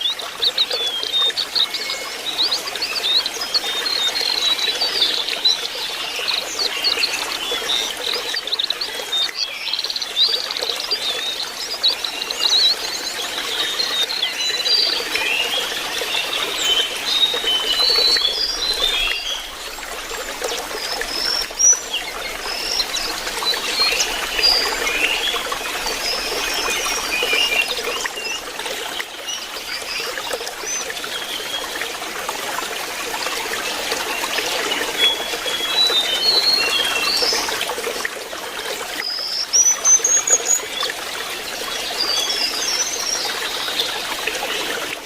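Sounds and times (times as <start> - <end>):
birds chirping and twittering: 0.0 - 45.0
trickle of running water: 0.0 - 45.0.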